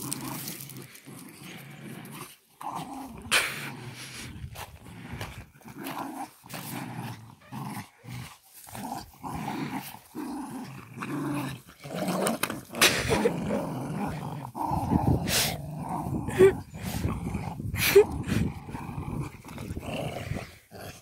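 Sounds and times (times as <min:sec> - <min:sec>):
small dogs growling: 0:00.0 - 0:21.0.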